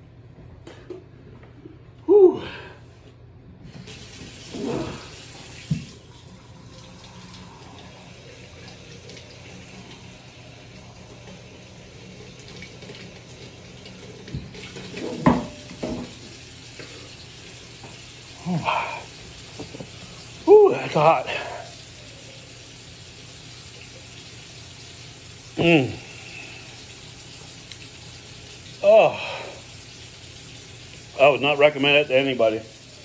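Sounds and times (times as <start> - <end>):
kitchen tap running: 3.7 - 33.0.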